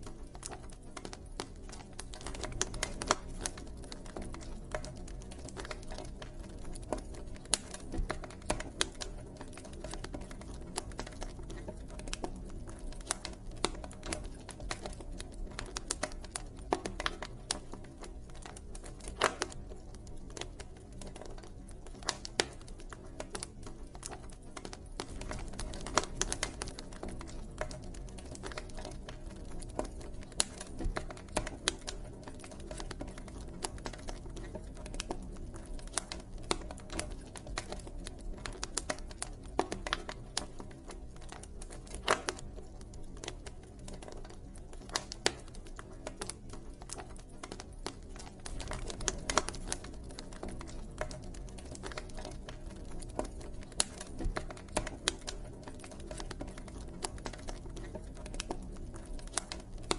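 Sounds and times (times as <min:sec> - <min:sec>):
campfire pops and snaps: 0:00.0 - 0:59.9
low rush of burning fire: 0:00.0 - 0:59.9.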